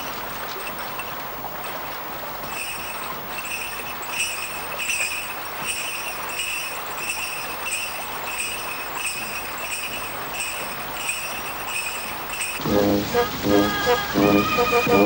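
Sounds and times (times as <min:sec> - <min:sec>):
flowing water rushing: 0:00.0 - 0:15.0
small bells jingling: 0:00.0 - 0:15.0.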